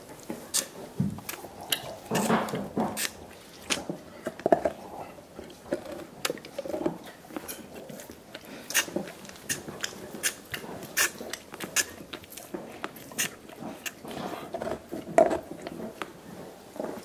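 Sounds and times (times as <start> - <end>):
dogs gnawing bones: 0.0 - 17.0.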